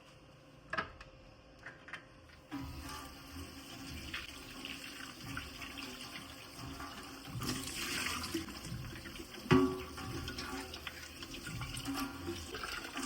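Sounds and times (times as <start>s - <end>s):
tap water running into sink: 2.5s - 13.0s.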